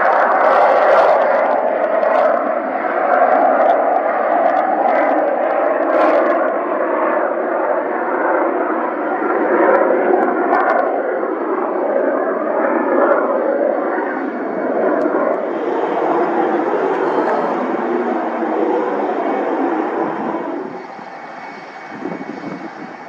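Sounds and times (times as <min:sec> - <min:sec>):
airplane engine: 0:00.0 - 0:23.0.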